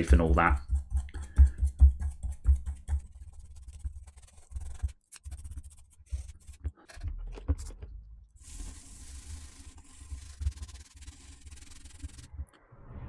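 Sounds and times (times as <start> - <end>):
toothbrush scrubbing metal: 0.0 - 7.1, 8.4 - 12.3.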